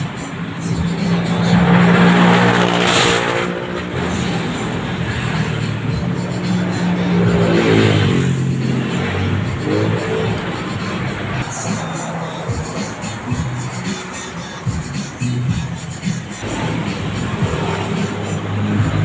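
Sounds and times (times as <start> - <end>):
motorcycle engine revving: 0.6 - 19.0.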